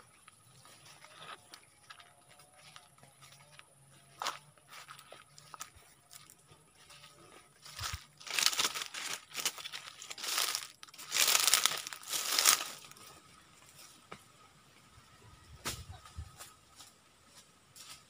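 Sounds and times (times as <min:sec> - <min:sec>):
leaves and grass rustling underfoot: 0:00.0 - 0:14.5, 0:15.3 - 0:18.0.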